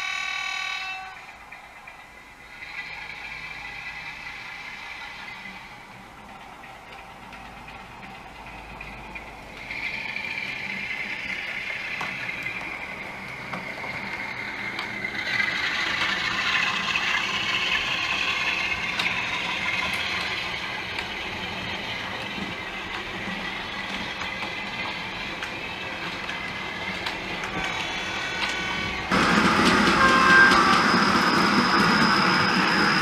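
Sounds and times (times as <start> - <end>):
model train wheels rumbling and clicking: 0.0 - 33.0.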